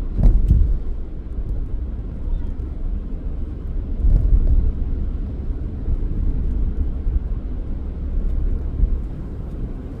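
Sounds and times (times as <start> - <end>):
car driving rumble: 0.0 - 10.0.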